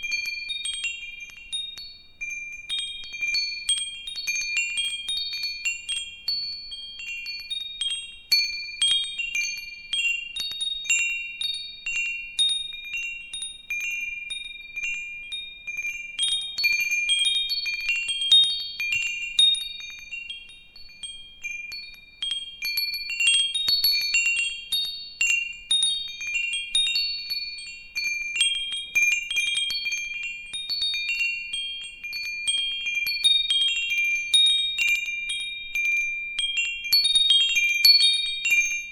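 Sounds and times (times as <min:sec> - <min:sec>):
metal wind chimes ringing: 0:00.0 - 0:38.9.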